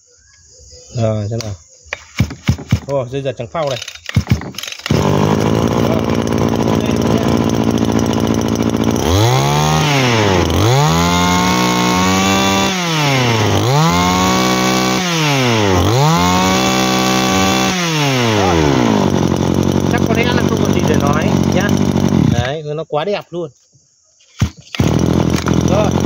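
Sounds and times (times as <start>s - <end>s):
brush cutter engine idling and revving: 1.9s - 3.0s, 3.6s - 22.6s, 24.3s - 26.0s.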